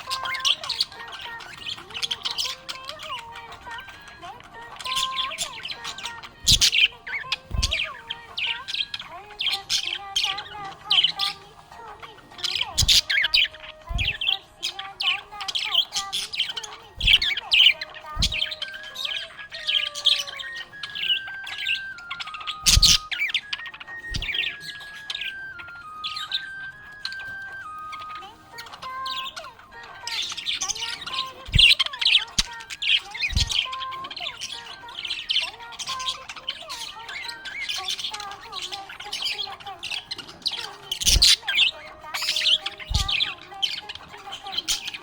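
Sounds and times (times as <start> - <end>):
budgerigar chirping: 0.0 - 45.0.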